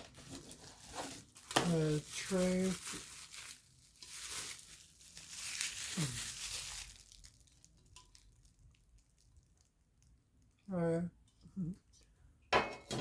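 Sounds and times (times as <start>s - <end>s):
packaging crinkling and tearing: 0.0s - 10.6s.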